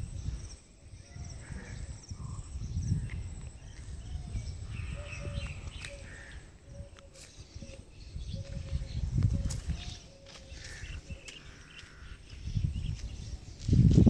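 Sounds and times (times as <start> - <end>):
birds chirping: 0.0 - 14.0
wind rumbling on microphone: 0.0 - 14.0.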